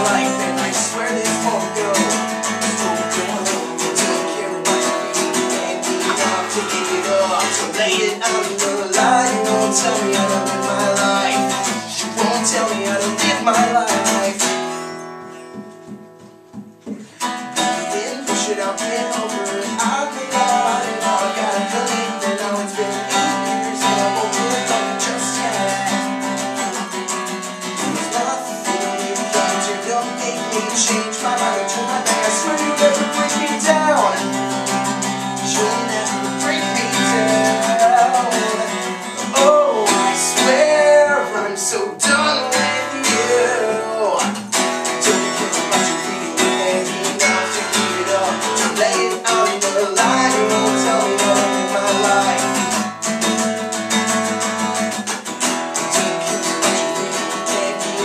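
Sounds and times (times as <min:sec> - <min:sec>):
man singing: 0:00.0 - 0:15.0, 0:17.0 - 0:55.1, 0:55.8 - 0:58.0
acoustic guitar strumming: 0:00.0 - 0:58.0.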